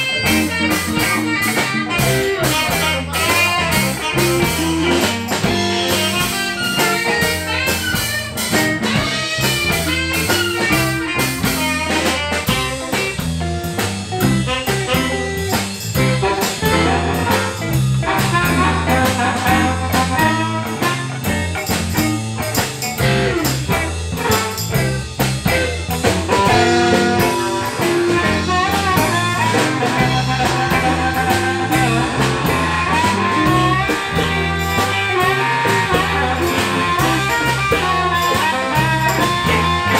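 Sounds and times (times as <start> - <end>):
blues band playing a shuffle: 0.0 - 39.9
blues harmonica: 0.0 - 39.9.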